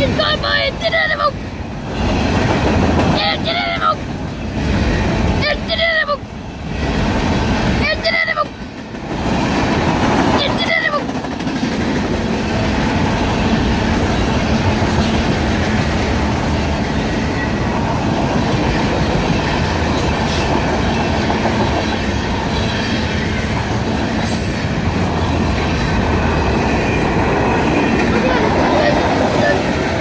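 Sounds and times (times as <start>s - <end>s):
train cars rumbling and rattling: 0.0s - 30.0s.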